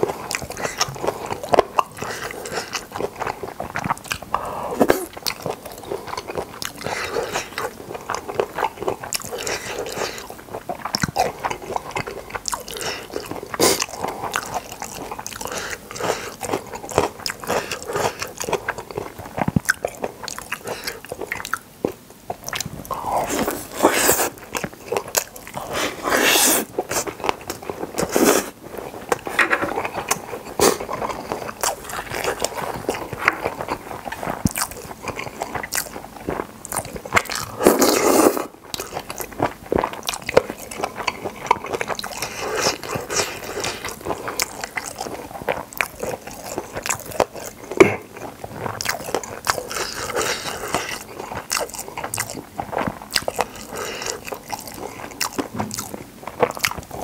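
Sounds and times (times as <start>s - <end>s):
person chewing and biting: 0.0s - 57.0s.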